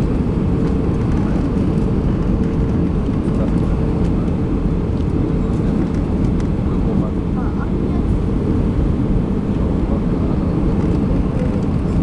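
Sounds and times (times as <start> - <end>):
jet engine rumble and rushing air: 0.0 - 12.0.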